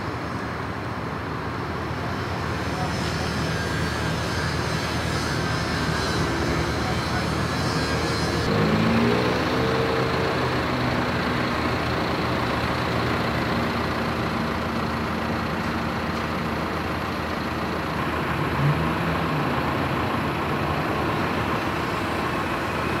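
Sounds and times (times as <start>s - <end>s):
heavy engine running: 0.0s - 23.0s
street noise: 0.0s - 23.0s.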